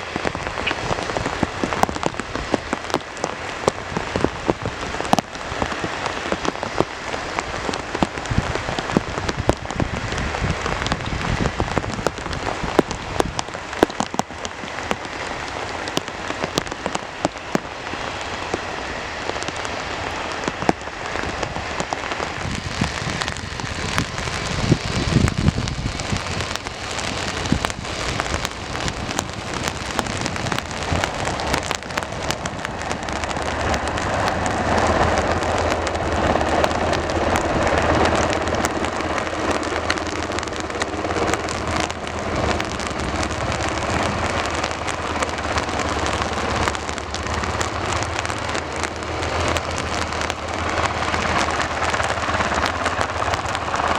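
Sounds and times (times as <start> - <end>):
rain falling: 0.0 - 53.9
raindrops hitting close: 0.0 - 53.9.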